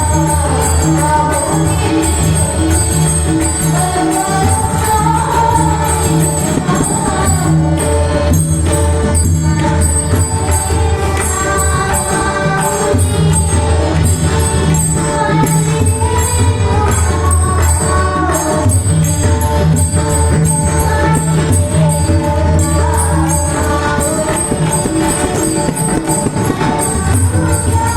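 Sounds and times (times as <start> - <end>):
group of voices singing: 0.0 - 27.9
hand drums rhythm: 0.0 - 27.9.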